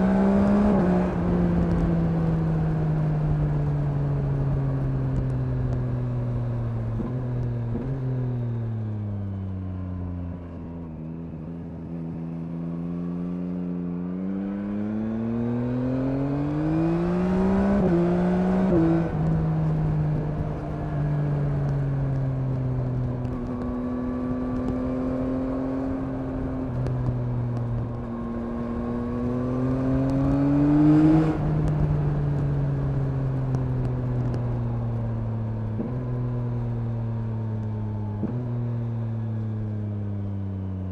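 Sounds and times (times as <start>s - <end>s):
motorcycle engine revving: 0.0s - 4.0s, 11.5s - 40.9s.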